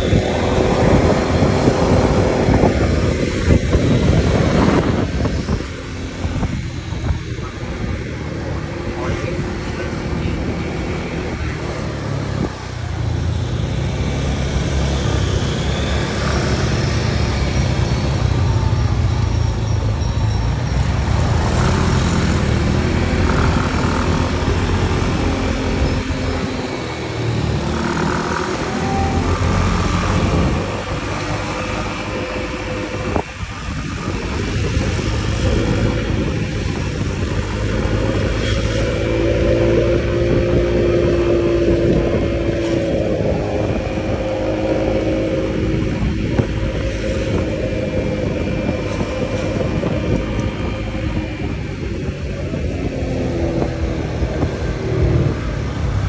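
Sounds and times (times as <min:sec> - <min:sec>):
passing vehicle engines: 0:00.0 - 0:56.0
scooter engine and road noise: 0:00.0 - 0:56.0.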